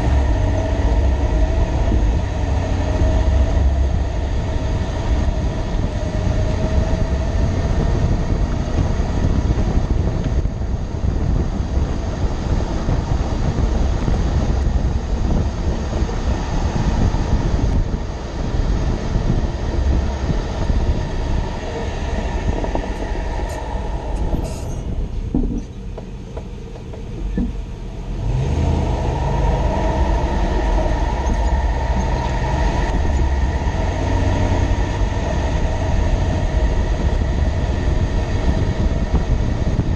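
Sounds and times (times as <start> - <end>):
low rumble of road and engine: 0.0 - 39.9.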